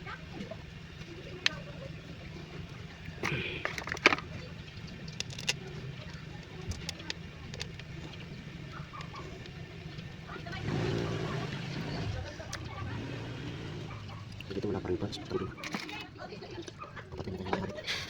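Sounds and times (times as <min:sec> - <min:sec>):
surge of noise: 0:00.0 - 0:14.5.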